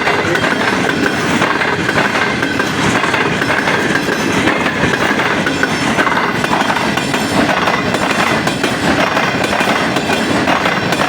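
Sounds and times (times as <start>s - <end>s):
train wheels clattering over rails: 0.0s - 11.0s.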